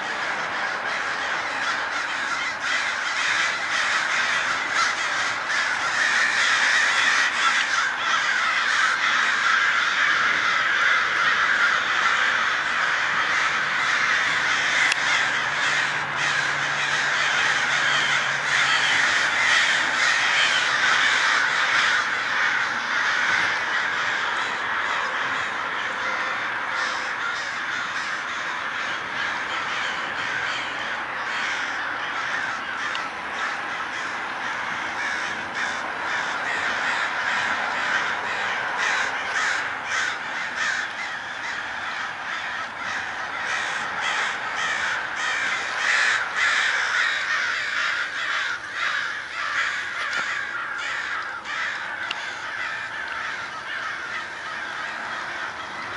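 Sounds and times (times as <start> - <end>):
flock of crows cawing: 0.0 - 55.9.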